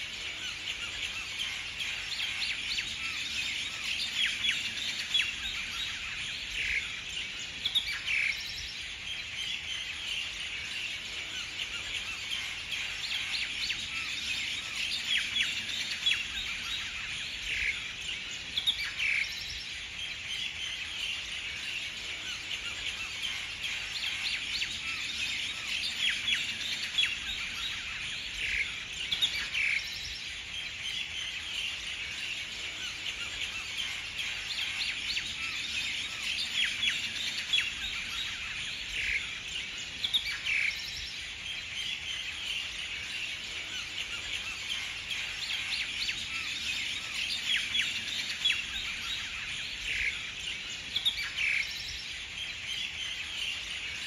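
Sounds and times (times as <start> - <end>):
birds chirping in chorus: 0.0 - 54.0.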